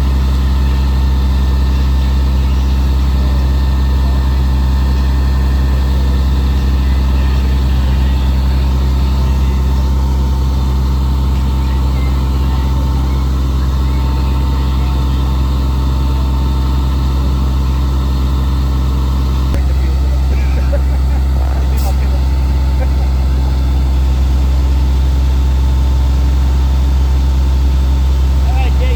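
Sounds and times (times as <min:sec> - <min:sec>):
fire engine droning: 0:00.0 - 0:28.9.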